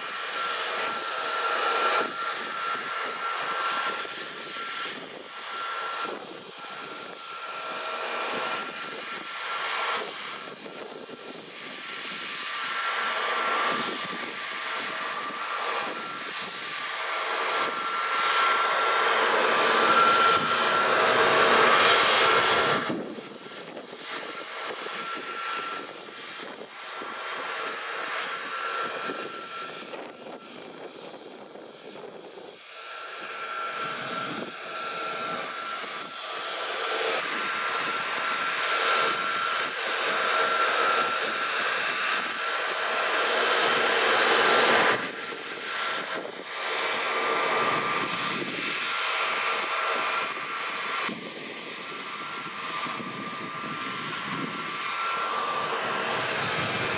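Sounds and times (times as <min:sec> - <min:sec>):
jet engines idling: 0:00.0 - 0:56.9.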